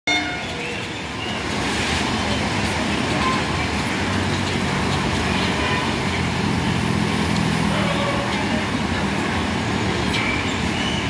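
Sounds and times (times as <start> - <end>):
electric train rumbling: 0.1 - 11.0.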